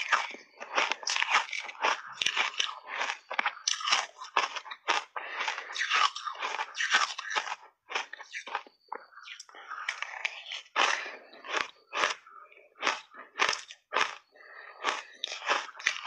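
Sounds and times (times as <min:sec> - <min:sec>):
crunching shaved ice: 0:00.0 - 0:16.0.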